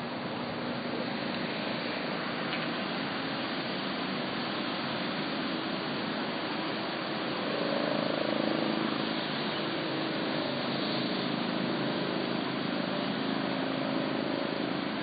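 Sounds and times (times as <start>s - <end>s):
rushing river: 0.0s - 15.0s
traffic engine hum: 0.0s - 15.0s.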